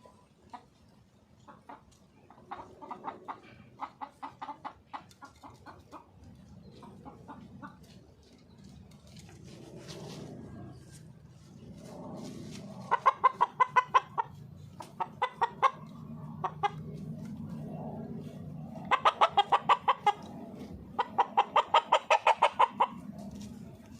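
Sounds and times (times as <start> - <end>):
rooster clucking: 0.0 - 23.9.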